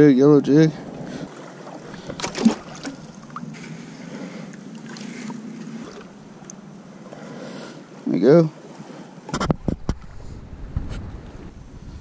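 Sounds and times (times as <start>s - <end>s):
water sloshing and lapping: 0.5s - 11.5s.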